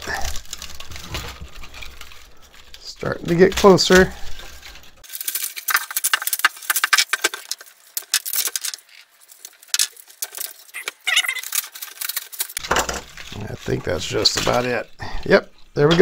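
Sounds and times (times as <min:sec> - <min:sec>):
plastic strands rattling: 0:00.0 - 0:16.0.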